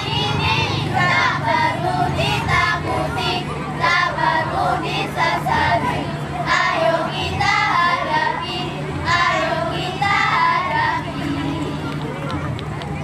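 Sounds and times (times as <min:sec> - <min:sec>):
girls singing a cheer song: 0:00.0 - 0:11.9.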